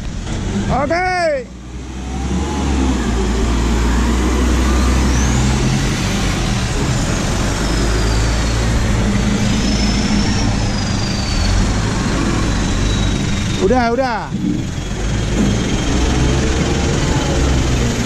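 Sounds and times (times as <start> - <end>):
road and wind noise: 0.0 - 18.0
truck diesel engine droning: 0.0 - 18.0.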